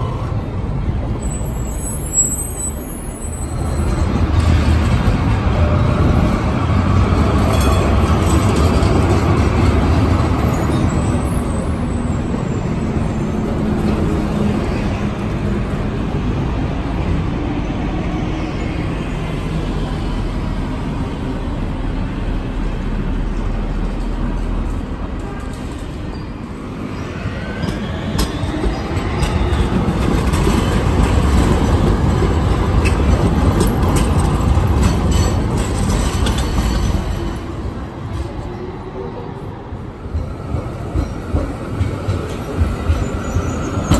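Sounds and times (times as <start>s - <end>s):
tram wheels rumbling on rails: 0.0s - 43.9s.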